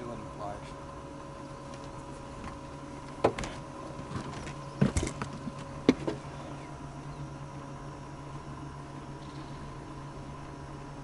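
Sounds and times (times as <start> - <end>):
electric boat motor humming: 0.0 - 11.0.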